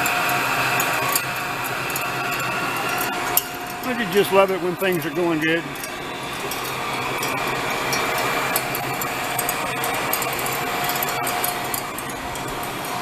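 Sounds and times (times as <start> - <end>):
electric welder crackling hiss: 0.0 - 13.0
faint welder hum: 0.0 - 13.0.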